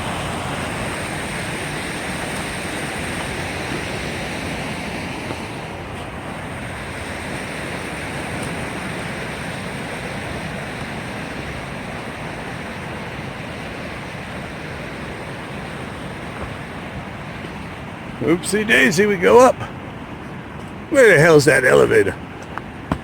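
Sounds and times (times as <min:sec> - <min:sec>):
waterfall rushing water: 0:00.0 - 0:22.9.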